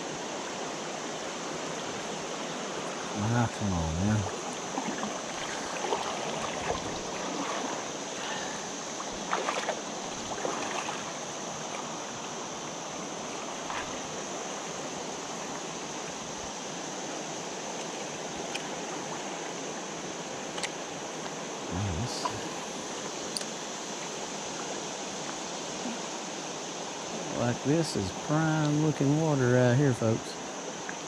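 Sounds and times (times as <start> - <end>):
river rushing over rocks: 0.0 - 27.6.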